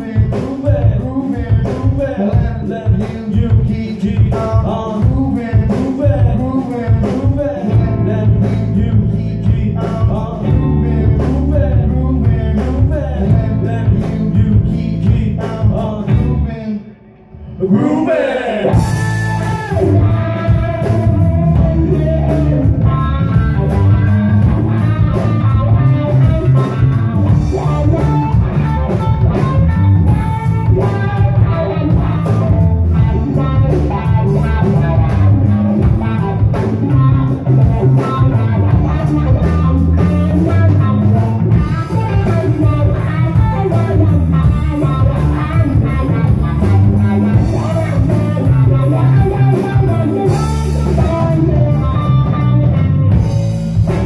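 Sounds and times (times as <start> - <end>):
drum kit: 0.0 - 16.6, 18.6 - 54.0
electric bass: 0.0 - 54.0
electric guitar: 0.0 - 54.0.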